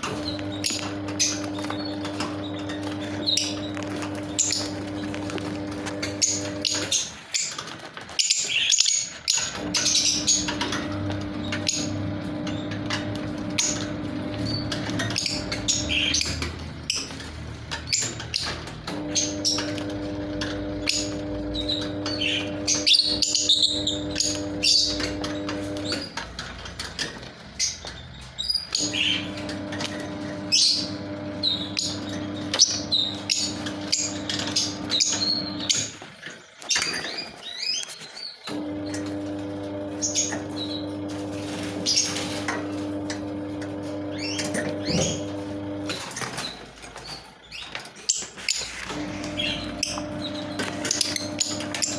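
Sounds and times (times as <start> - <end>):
lovebirds chirping and twittering: 0.0 - 51.9.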